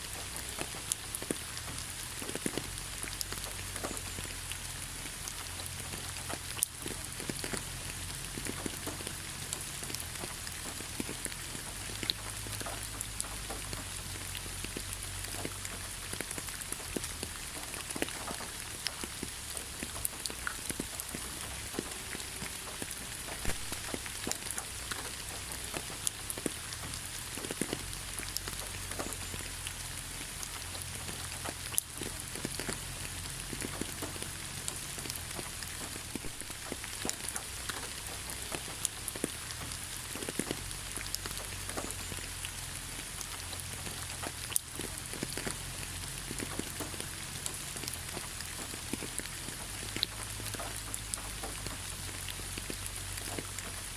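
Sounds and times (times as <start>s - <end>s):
raindrops ticking close by: 0.0s - 53.9s
steady rain: 0.0s - 53.9s.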